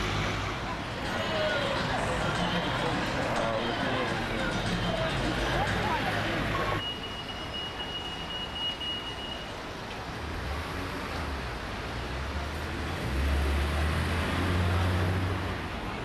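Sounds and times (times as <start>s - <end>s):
passing vehicles rumbling: 0.0s - 6.8s, 9.6s - 16.0s.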